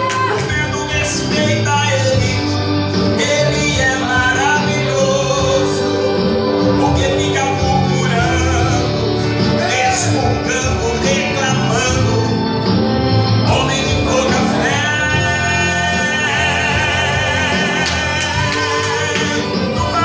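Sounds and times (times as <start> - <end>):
man singing gospel song: 0.0 - 20.0.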